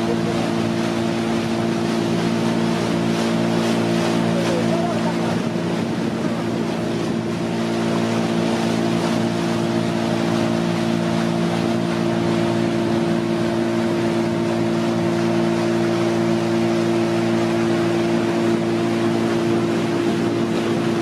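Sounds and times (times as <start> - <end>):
motorboat engine running: 0.0 - 21.0
water rushing: 0.0 - 21.0.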